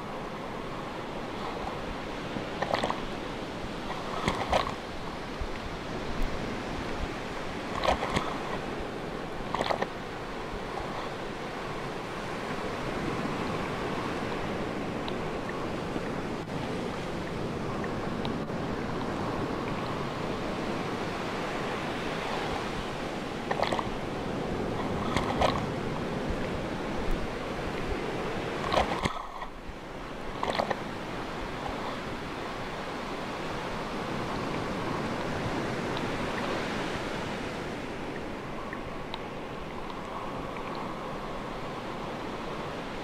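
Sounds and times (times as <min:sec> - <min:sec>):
sea waves washing: 0:00.0 - 0:43.0.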